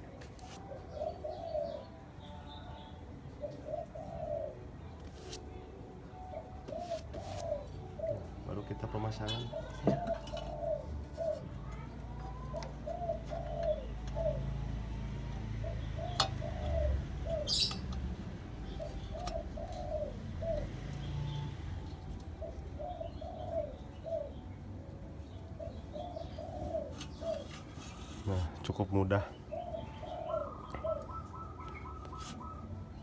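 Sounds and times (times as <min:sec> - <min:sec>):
dove cooing: 0:00.6 - 0:02.0, 0:03.3 - 0:05.4, 0:06.2 - 0:33.0.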